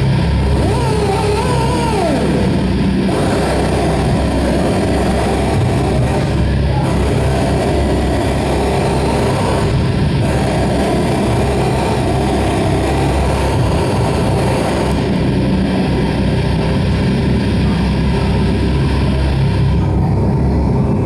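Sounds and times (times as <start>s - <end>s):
distorted live band playing: 0.0s - 19.4s.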